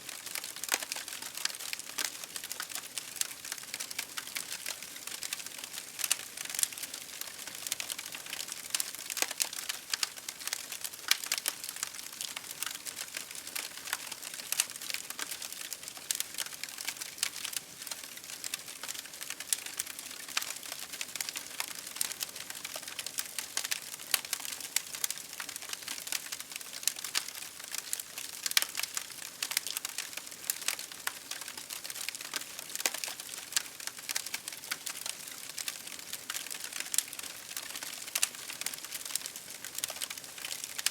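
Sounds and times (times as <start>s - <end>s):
campfire crackling: 0.1s - 40.9s.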